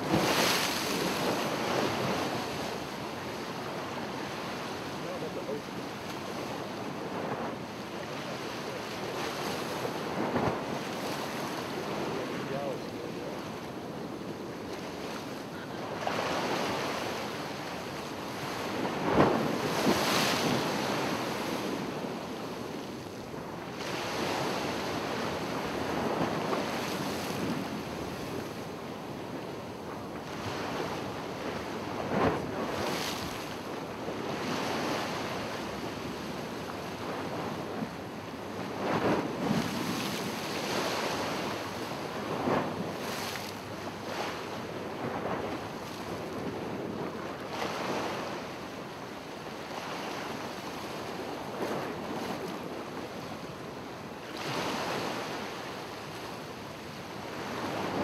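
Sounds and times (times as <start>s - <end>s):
ocean surf washing ashore: 0.0s - 58.0s
wind on microphone: 0.0s - 58.0s.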